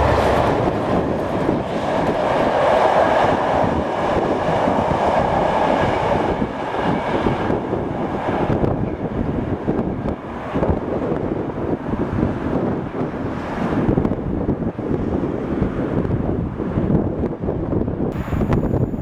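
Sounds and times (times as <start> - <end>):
train wheels rumbling on rails: 0.0 - 19.0
wind on microphone: 0.0 - 19.0.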